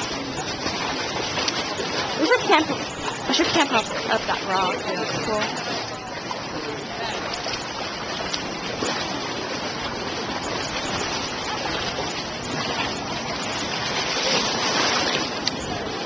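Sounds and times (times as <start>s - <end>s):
people wading through seawater: 0.0s - 16.0s.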